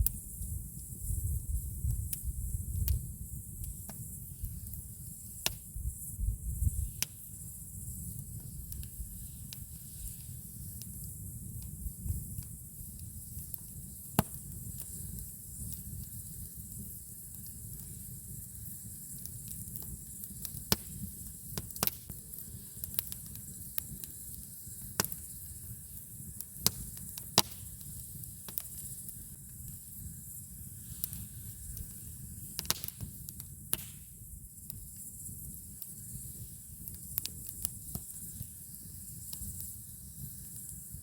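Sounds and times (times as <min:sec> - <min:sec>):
sharp pops of fire: 0:00.0 - 0:41.0
wood campfire crackling: 0:01.9 - 0:41.0.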